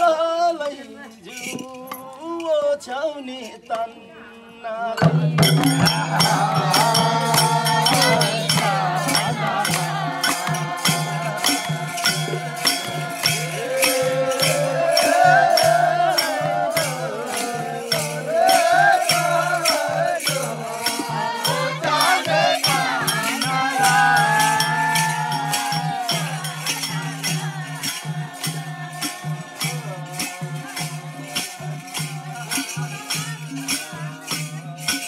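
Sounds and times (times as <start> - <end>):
group singing folk song: 3.4 - 35.0
hand drum beating: 5.0 - 35.0.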